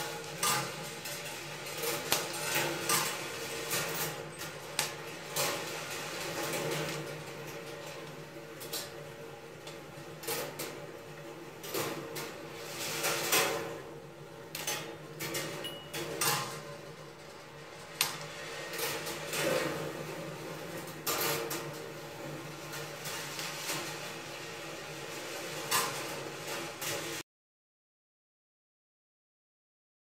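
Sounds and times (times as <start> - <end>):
marbles rolling on wire tracks: 0.0 - 27.2.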